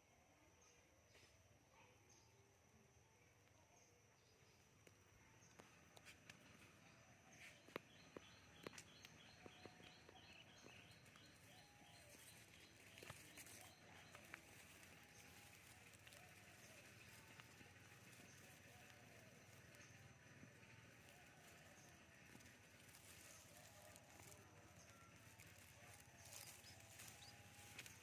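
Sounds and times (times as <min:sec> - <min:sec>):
bird chirping: 0:03.7 - 0:28.0.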